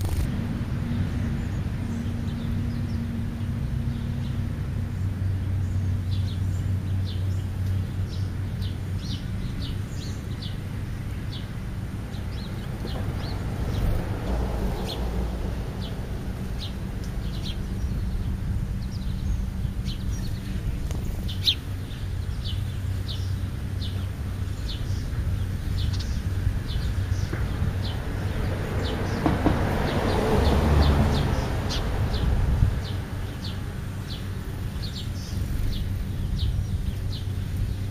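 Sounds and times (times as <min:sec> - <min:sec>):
low traffic rumble: 0:00.0 - 0:37.9
small birds chirping: 0:00.0 - 0:37.9.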